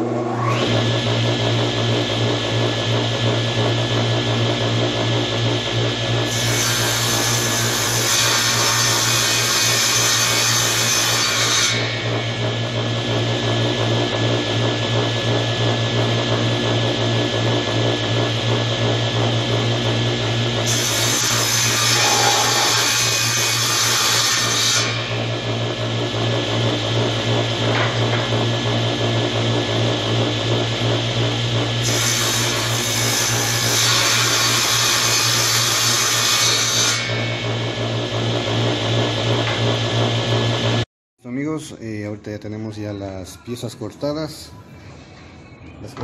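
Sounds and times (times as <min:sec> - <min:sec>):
saw blade cutting board: 0:00.0 - 0:40.8
table saw humming: 0:00.0 - 0:40.9.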